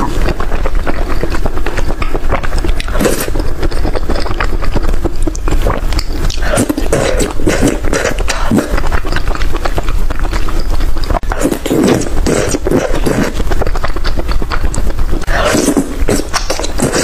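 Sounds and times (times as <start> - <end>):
person chewing and crunching: 0.0 - 17.0
wet mouth noises: 0.0 - 17.0.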